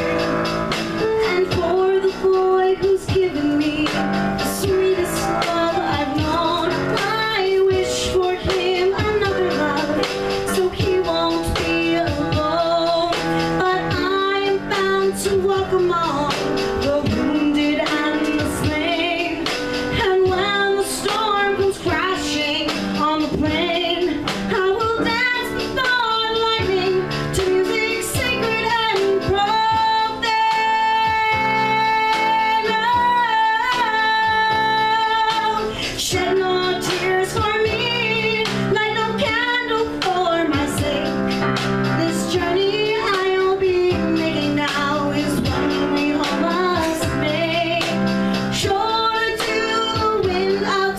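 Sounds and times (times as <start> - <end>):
piano accompaniment: 0.0 - 50.9
woman singing: 0.0 - 50.9.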